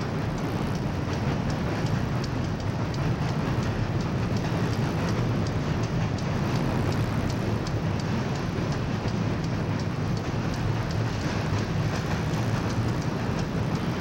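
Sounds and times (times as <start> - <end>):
faint regular ticking: 0.0 - 14.0
train rumbling on bridge: 0.0 - 14.0.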